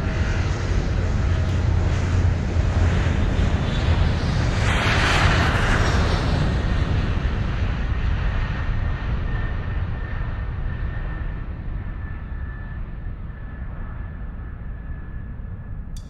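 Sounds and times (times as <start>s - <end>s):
aircraft rumble: 0.0s - 16.0s.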